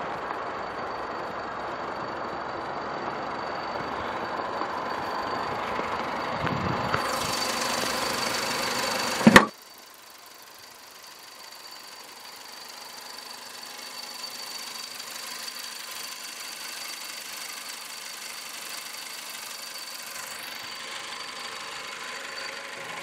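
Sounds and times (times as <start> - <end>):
car engine idling: 0.0 - 23.0
thin high whine: 0.0 - 23.0.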